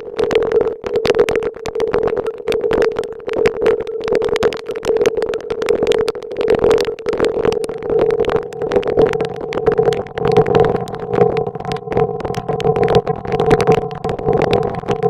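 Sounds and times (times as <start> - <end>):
rapid crackling clicks: 0.0 - 15.0.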